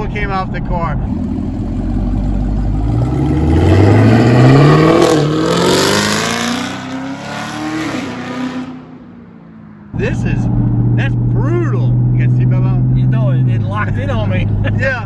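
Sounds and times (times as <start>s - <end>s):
car engine accelerating hard: 1.0s - 9.0s, 9.9s - 15.0s.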